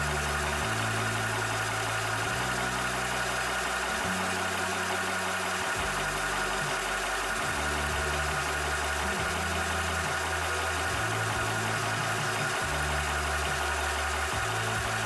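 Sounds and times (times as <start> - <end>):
air compressor pumping: 0.0 - 15.0.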